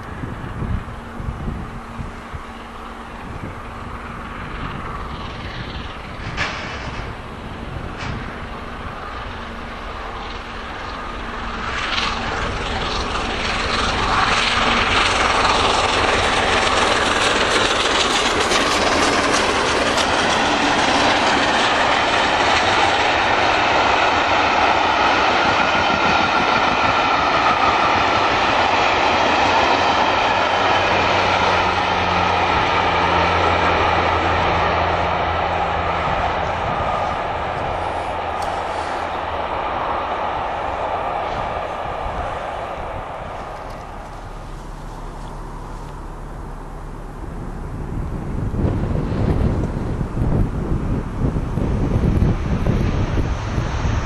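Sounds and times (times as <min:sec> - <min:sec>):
wheels clattering on rails: 0:00.0 - 0:46.6
steam train passing: 0:00.0 - 0:54.0.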